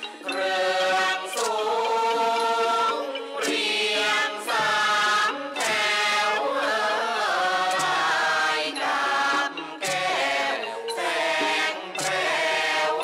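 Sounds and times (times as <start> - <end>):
voices chanting long notes: 0.0 - 13.0.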